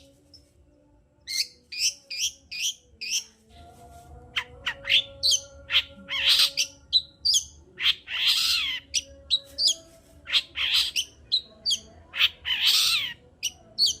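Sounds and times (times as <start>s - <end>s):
bird singing with sharp chips: 1.3s - 3.4s, 4.4s - 14.0s.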